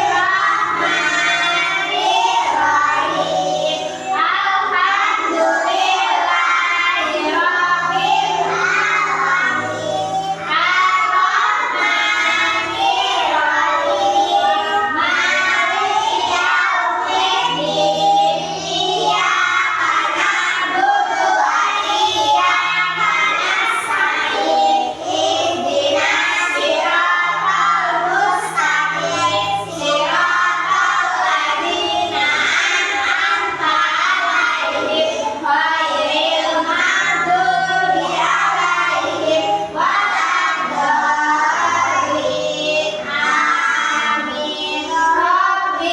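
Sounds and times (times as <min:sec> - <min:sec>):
children singing: 0:00.0 - 0:45.9
instrumental accompaniment: 0:00.0 - 0:45.9.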